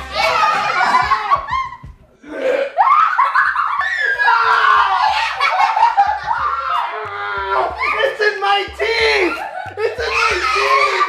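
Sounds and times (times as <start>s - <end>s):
people laughing and shrieking: 0.0s - 11.0s.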